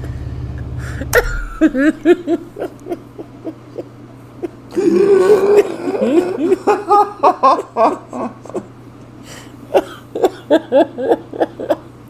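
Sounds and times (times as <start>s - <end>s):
men laughing hard: 1.0s - 8.8s, 9.7s - 12.0s.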